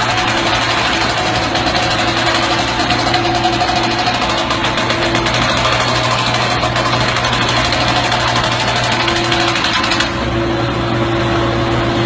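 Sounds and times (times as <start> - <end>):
engine running roughly: 0.0 - 12.0.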